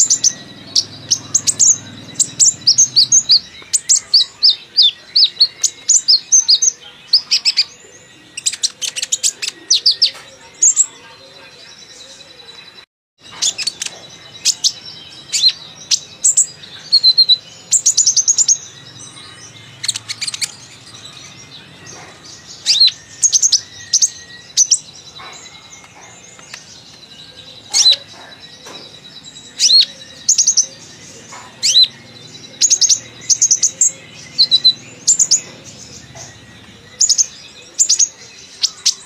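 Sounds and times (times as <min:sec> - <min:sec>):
sunbird chirping and trilling: 0:00.0 - 0:39.0.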